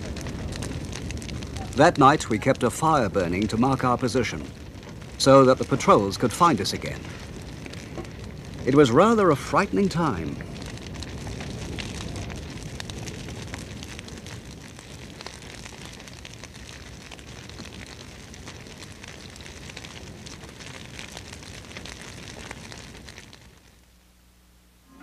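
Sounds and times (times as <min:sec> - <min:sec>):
fire rushing noise: 0:00.0 - 0:23.8
campfire crackling: 0:00.0 - 0:25.0.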